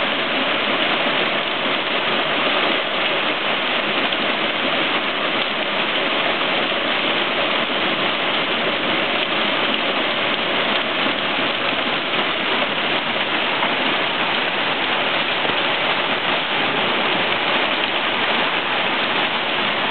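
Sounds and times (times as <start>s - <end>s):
torrential rain pouring: 0.0s - 19.9s.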